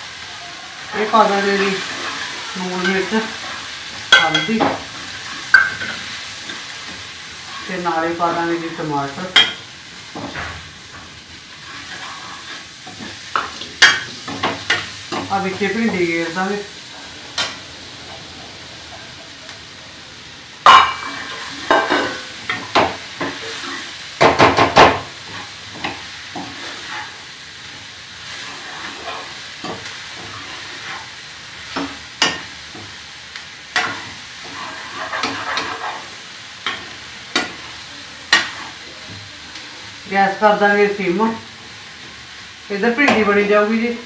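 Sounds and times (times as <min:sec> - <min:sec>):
okra sizzling in a pan: 0:00.0 - 0:44.0.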